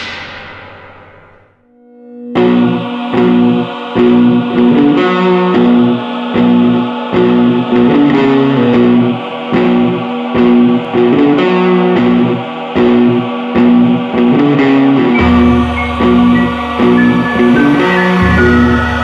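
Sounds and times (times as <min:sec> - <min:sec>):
electric guitar theme music: 0:01.7 - 0:19.0.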